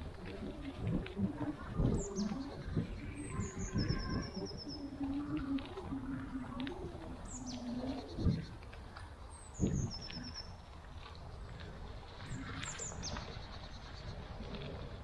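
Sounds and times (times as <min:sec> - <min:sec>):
birds chirping: 0:00.2 - 0:10.7, 0:11.3 - 0:15.0.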